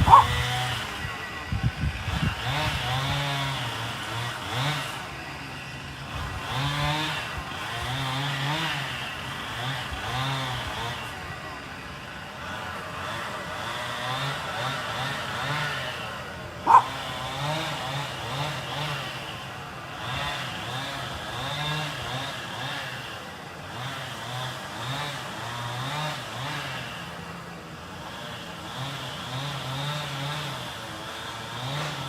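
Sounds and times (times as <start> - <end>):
chainsaw cutting: 0.0 - 32.0.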